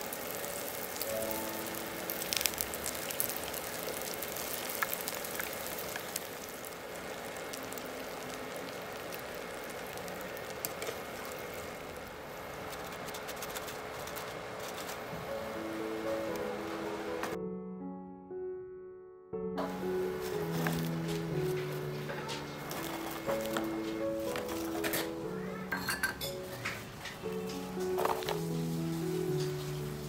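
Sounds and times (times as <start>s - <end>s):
deep-frying sizzle with pops: 0.0s - 17.4s, 19.6s - 30.0s.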